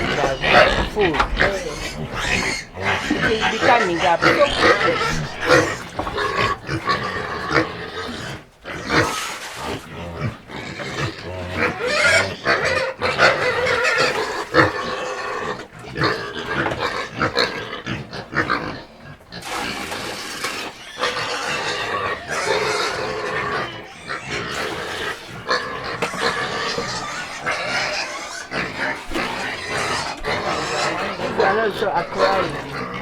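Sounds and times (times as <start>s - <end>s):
pigs squealing: 0.0s - 33.0s.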